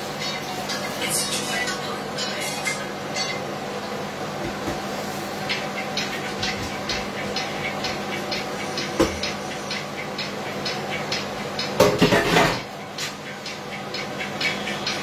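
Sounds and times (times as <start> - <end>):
steady hum: 0.0 - 15.0
pots and utensils clattering: 0.1 - 3.5, 4.4 - 15.0.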